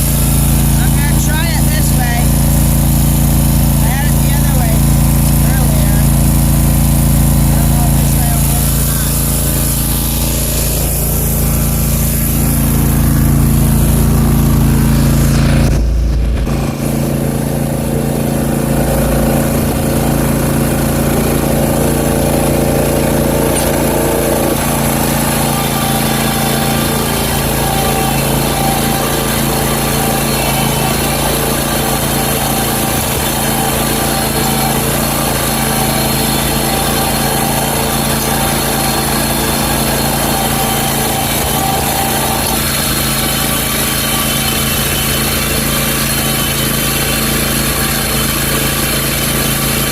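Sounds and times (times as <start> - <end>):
riding mower engine running: 0.0 - 49.9.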